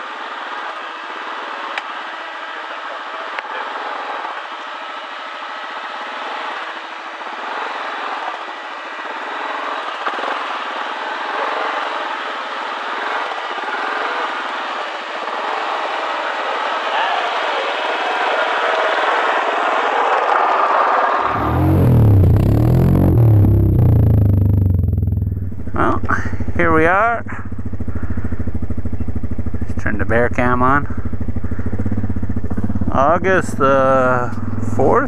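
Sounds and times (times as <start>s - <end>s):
atv engine running: 0.0s - 20.0s, 21.2s - 35.0s.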